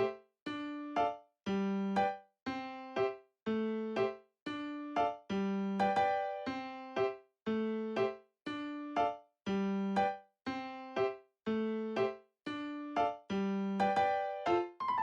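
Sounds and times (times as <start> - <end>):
bouncy piano tune: 0.0 - 15.0.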